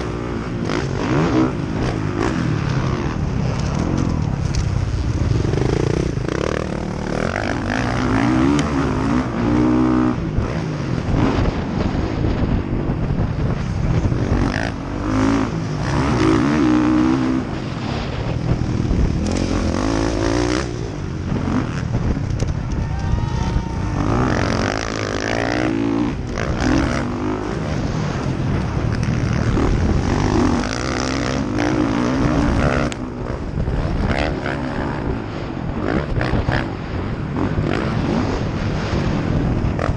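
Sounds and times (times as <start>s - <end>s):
motocross bike engine revving: 0.0s - 12.9s, 13.5s - 22.6s, 23.2s - 39.9s
wind on microphone: 0.0s - 39.9s.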